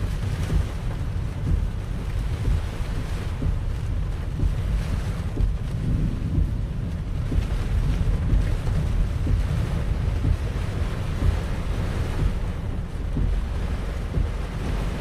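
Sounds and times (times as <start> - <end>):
wind and heavy rain on a car: 0.0 - 15.0.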